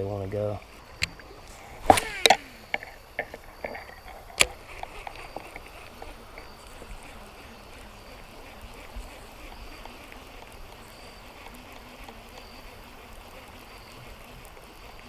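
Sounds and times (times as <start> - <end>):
faint steady hiss: 0.0 - 15.0
fishing reel clicking: 0.4 - 15.0.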